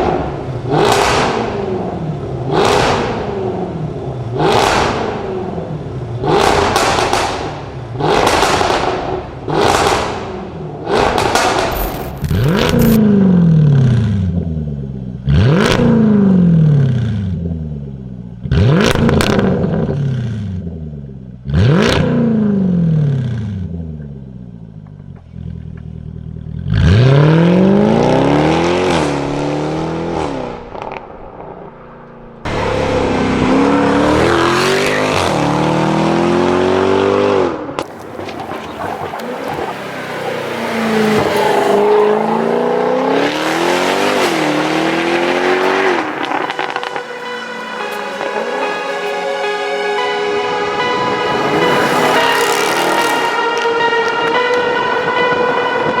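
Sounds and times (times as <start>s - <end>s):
car engine revving: 0.0s - 20.8s, 25.0s - 56.0s.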